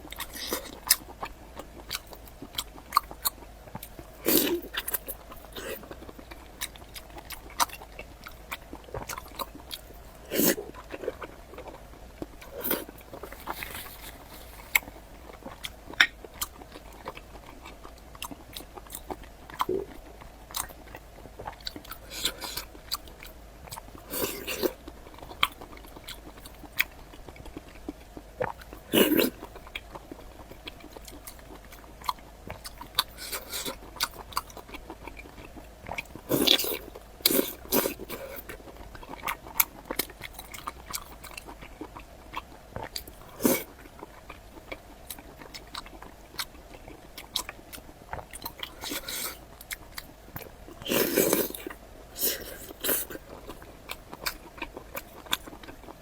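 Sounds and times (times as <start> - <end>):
close-up chewing: 0.0 - 56.0.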